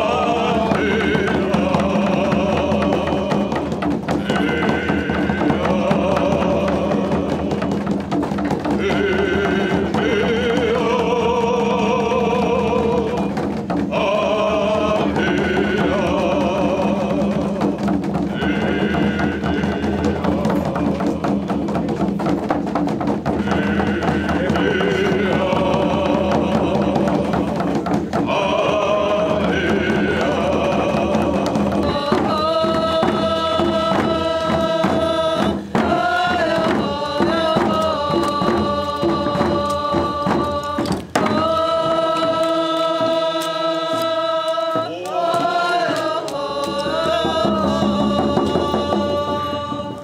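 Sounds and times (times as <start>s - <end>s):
voices singing a chant: 0.0s - 50.0s.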